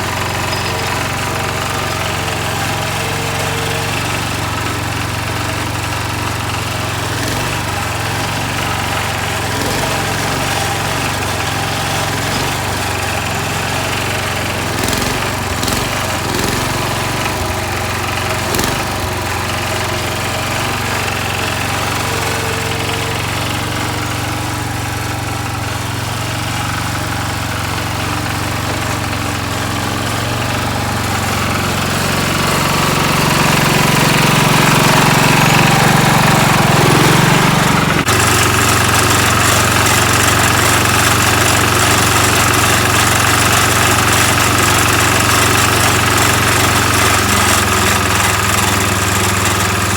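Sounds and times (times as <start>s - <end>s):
garden tractor engine running: 0.0s - 49.9s.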